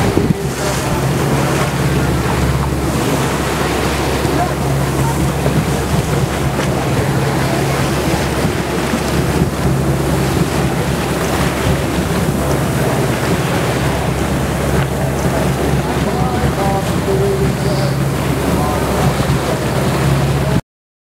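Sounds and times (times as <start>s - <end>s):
boat engine hum: 0.0s - 20.6s
waves against hull: 0.0s - 20.6s
wind buffeting microphone: 0.0s - 20.6s.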